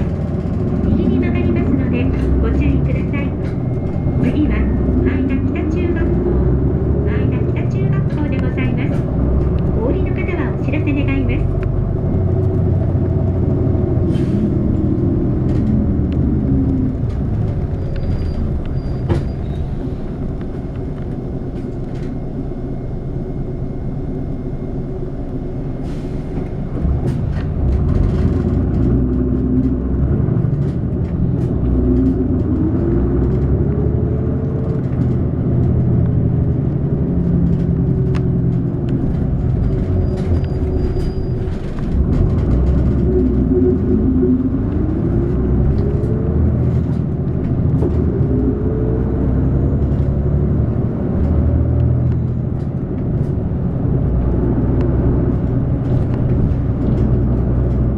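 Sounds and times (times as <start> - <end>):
bus engine: 0.0 - 57.9
road noise: 0.0 - 57.9.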